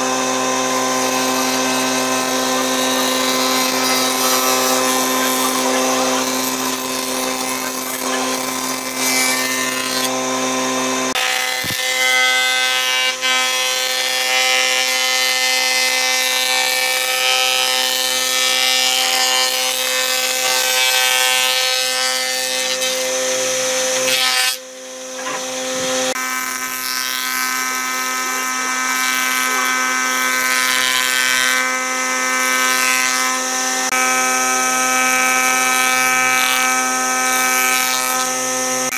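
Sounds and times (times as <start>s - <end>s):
planer machine whine: 0.0s - 38.9s.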